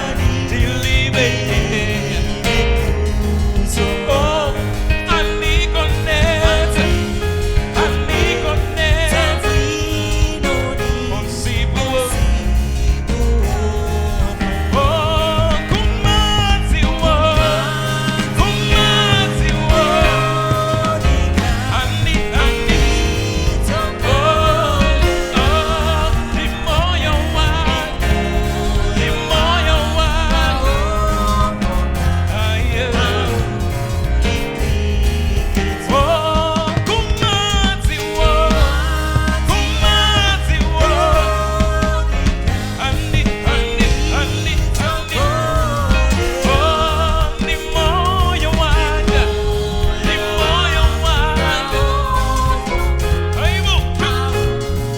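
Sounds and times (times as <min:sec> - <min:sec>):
person singing: 0:00.0 - 0:54.9
worship band playing gospel song: 0:00.0 - 0:54.9.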